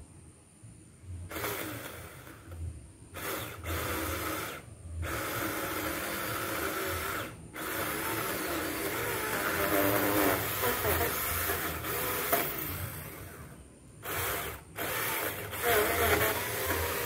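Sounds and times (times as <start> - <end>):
cordless chainsaw cutting wood: 1.3 - 2.6, 3.2 - 17.0.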